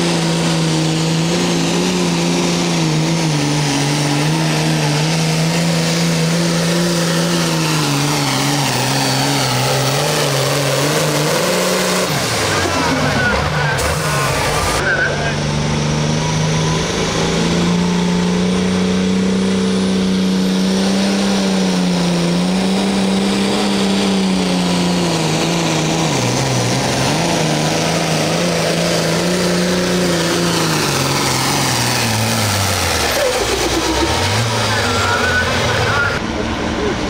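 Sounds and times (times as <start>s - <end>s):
tractor diesel engine at full throttle: 0.0s - 37.0s.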